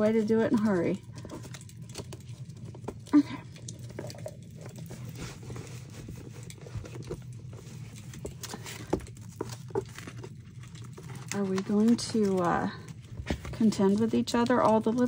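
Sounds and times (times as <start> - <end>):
paper rustling: 0.0 - 15.0
steady low hum: 0.0 - 15.0.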